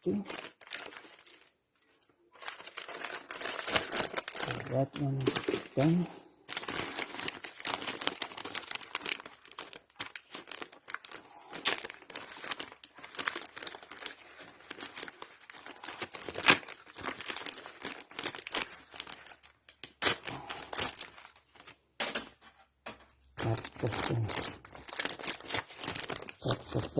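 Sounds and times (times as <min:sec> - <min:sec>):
packaging crinkling and rustling: 0:00.0 - 0:26.9.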